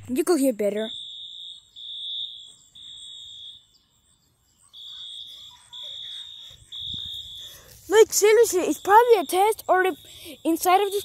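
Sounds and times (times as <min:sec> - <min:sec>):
fire alarm beeping: 0:00.9 - 0:11.0.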